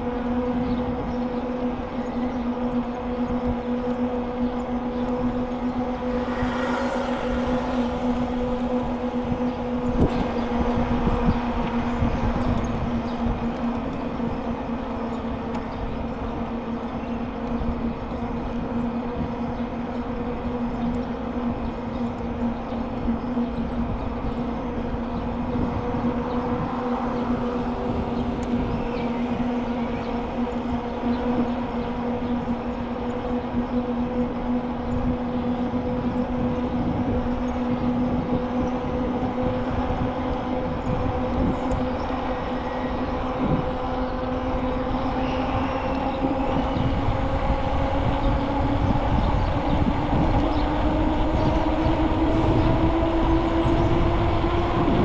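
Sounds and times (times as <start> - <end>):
bicycle tyres rolling: 0.0 - 55.0
steady hum: 0.0 - 55.0
wind on microphone: 0.0 - 55.0.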